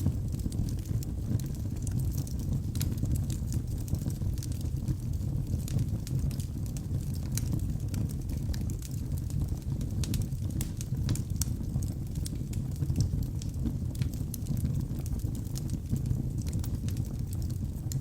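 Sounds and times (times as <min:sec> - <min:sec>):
log fire crackling and popping: 0:00.0 - 0:18.0.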